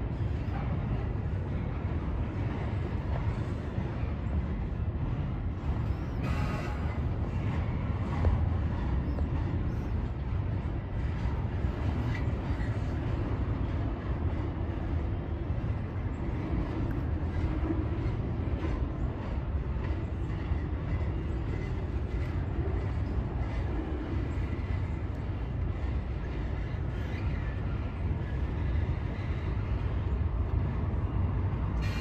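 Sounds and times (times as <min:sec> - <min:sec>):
train wheels rumbling on bridge: 0:00.0 - 0:32.0.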